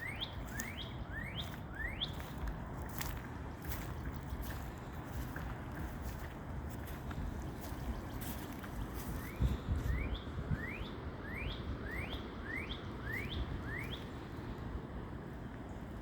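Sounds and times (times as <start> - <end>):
songbird singing: 0.0 - 16.0
wind rumble on microphone: 0.0 - 16.0.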